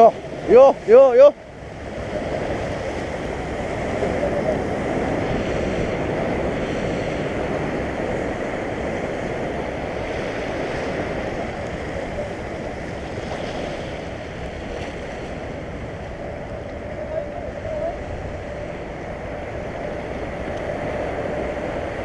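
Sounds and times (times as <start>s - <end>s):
surf washing over rocks: 0.0s - 22.0s.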